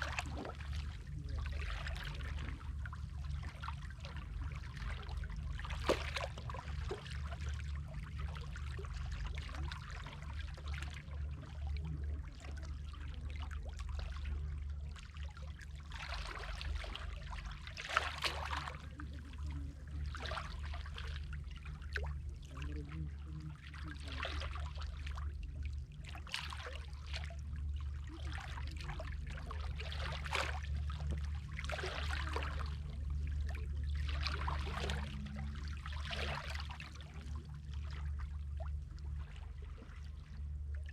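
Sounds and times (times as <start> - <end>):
sea water lapping and splashing: 0.0 - 40.9
steady low rumble: 0.0 - 40.9.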